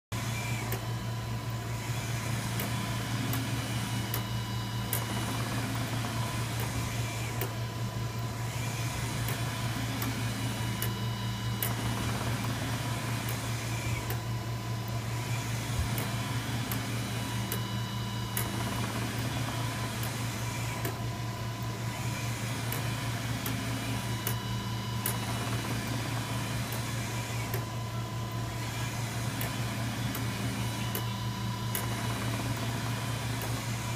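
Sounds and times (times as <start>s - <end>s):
printer humming: 0.1s - 33.9s.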